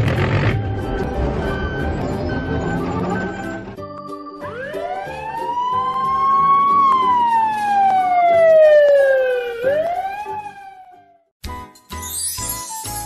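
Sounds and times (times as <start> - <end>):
cartoon ambulance siren wailing: 0.6 - 11.3.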